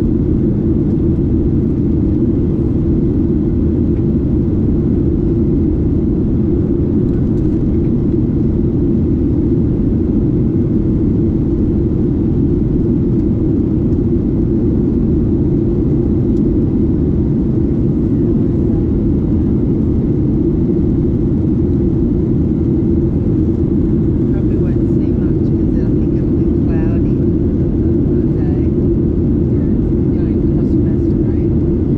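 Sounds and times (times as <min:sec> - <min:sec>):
airplane cabin engine drone: 0:00.0 - 0:31.9.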